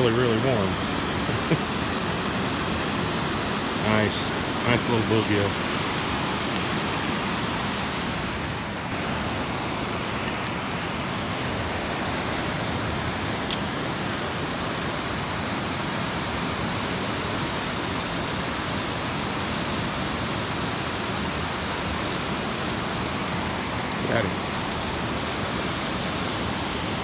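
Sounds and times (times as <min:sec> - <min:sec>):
water rushing from spillway: 0:00.0 - 0:27.0.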